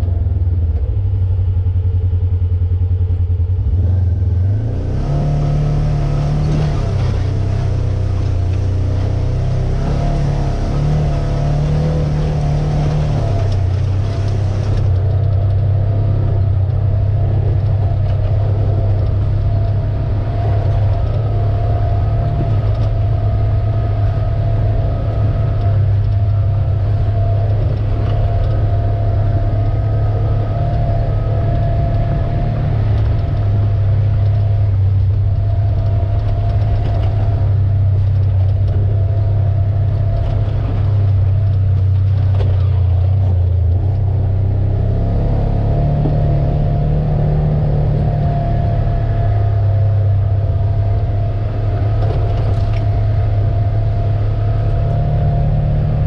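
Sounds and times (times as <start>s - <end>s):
utility vehicle engine droning: 0.0s - 56.0s.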